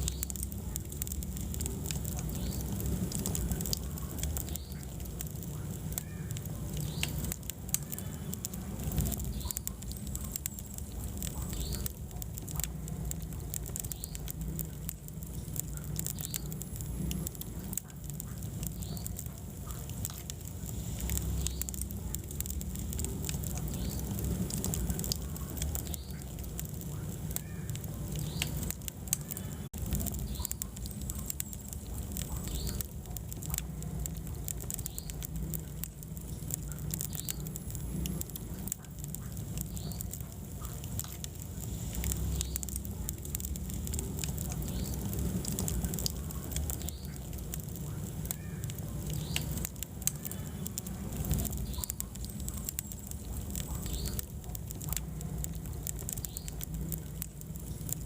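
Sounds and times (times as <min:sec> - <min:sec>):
fire flames rumbling: 0:00.0 - 0:58.0
wood fire crackling and popping: 0:00.0 - 0:58.0.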